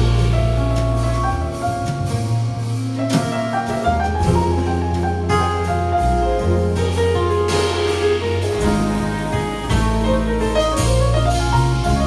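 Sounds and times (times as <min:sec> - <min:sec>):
double bass: 0:00.0 - 0:12.0
drums: 0:00.0 - 0:12.0
electric piano: 0:00.0 - 0:12.0.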